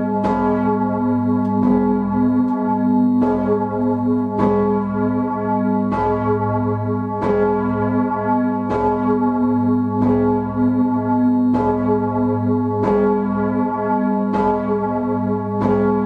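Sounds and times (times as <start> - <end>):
church bell ringing: 0.0 - 16.0.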